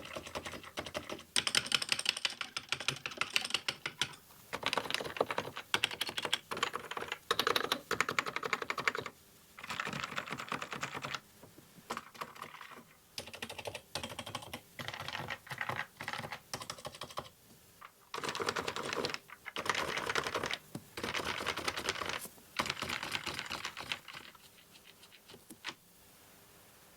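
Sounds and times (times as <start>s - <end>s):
keyboard typing: 0.0s - 11.2s, 11.9s - 17.4s, 18.1s - 25.8s.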